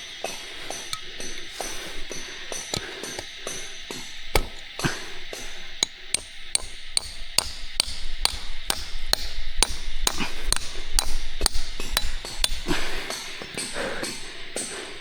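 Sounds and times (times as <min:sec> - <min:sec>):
sharp taps: 0:00.2 - 0:14.2.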